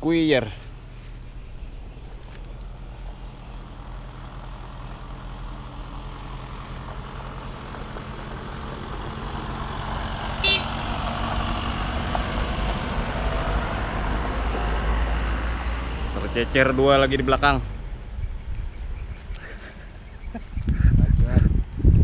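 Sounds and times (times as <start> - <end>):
truck diesel engine running: 0.0 - 20.4
road noise: 0.0 - 22.0.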